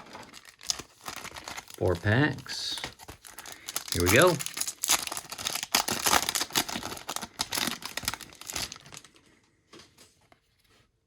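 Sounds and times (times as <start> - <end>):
foil wrapper crinkling and tearing: 0.0 - 9.3.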